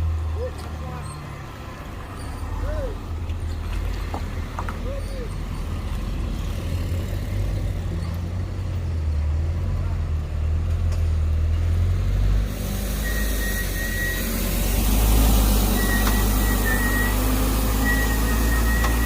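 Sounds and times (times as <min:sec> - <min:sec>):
diesel truck engine humming: 0:00.0 - 0:19.0
road noise hiss: 0:00.0 - 0:19.0.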